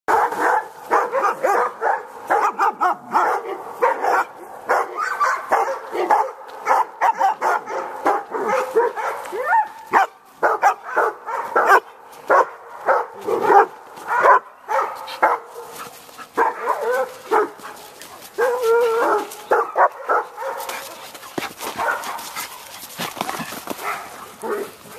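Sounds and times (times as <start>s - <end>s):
dogs barking and yipping: 0.1s - 24.9s.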